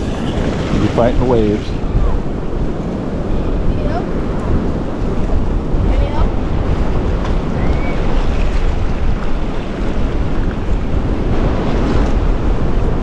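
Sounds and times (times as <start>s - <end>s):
surf breaking: 0.0s - 13.0s
wind buffeting microphone: 0.0s - 13.0s.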